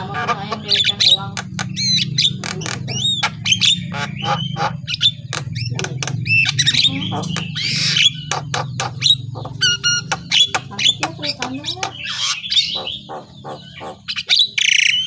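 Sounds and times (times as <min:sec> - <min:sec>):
steady low hum: 0:00.0 - 0:14.6
bird squawks and whistles: 0:00.0 - 0:15.0.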